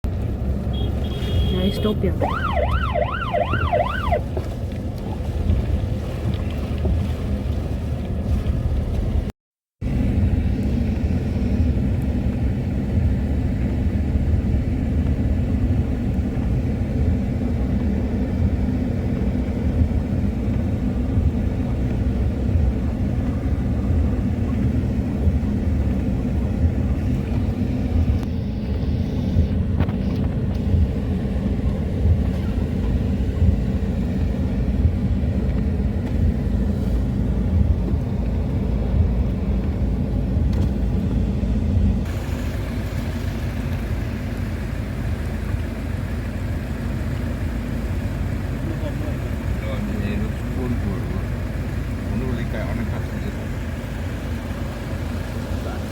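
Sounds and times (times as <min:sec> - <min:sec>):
car engine rumble: 0:00.0 - 0:55.9
road noise: 0:00.0 - 0:55.9.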